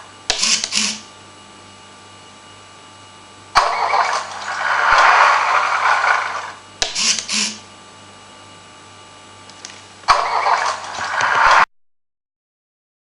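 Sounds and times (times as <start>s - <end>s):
faint electrical hum: 0.0s - 11.6s.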